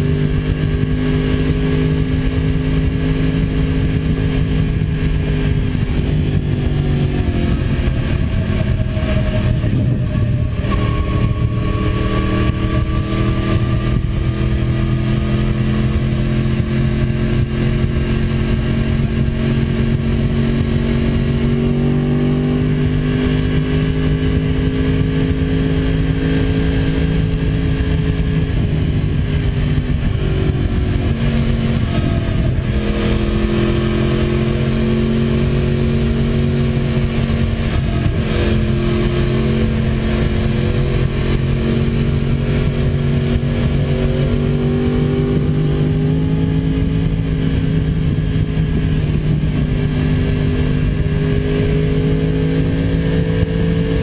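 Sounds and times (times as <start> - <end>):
motorcycle engine at speed: 0.0 - 54.0
wind rush: 0.0 - 54.0.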